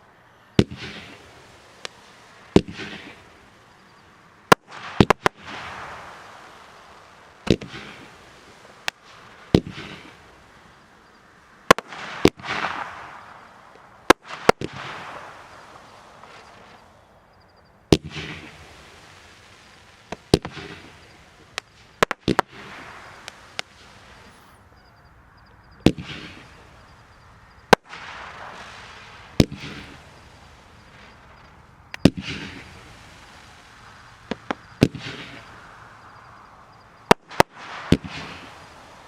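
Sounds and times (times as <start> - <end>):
fireworks crackling: 0.0 - 39.0
fireworks sharp pops: 0.6 - 3.8, 4.5 - 10.8, 11.6 - 17.0, 17.6 - 24.6, 25.3 - 39.0.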